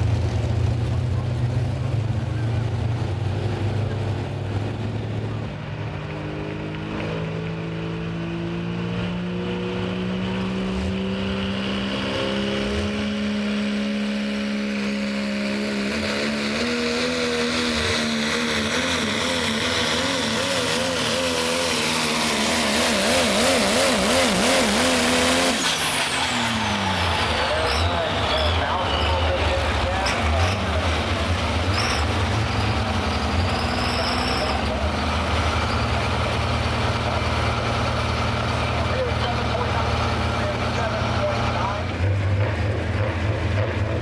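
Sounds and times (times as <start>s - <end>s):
diesel engine under load: 0.0s - 44.0s.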